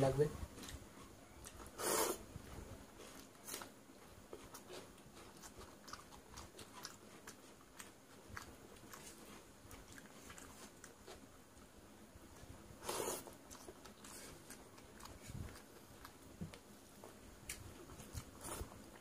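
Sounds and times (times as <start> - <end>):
wet chewing sounds: 0.5 - 19.0.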